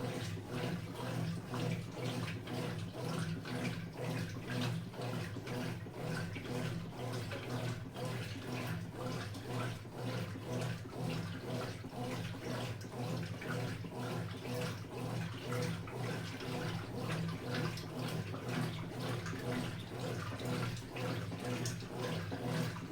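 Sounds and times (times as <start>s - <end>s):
washing machine motor hum: 0.0s - 22.9s
water sloshing in drum: 0.0s - 22.9s.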